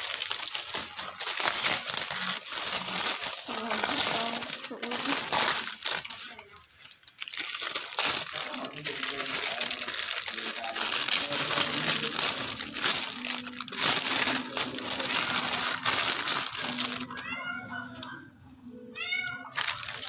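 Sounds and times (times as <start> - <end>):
plastic packaging crinkling: 0.0 - 18.1, 19.1 - 20.0.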